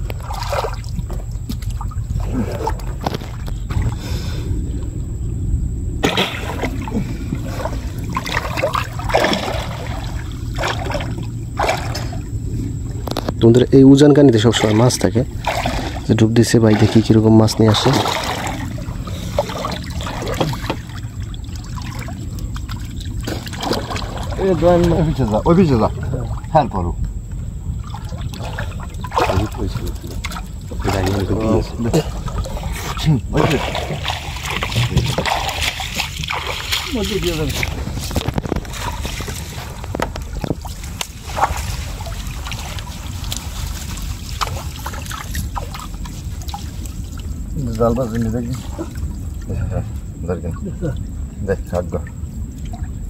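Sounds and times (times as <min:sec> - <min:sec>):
small water splashes: 0:00.0 - 0:04.0, 0:06.0 - 0:13.4, 0:14.3 - 0:27.0, 0:27.7 - 0:53.0
river water trickling and sloshing: 0:00.0 - 0:04.1, 0:06.0 - 0:53.0
wind rumble on microphone: 0:00.0 - 0:53.0.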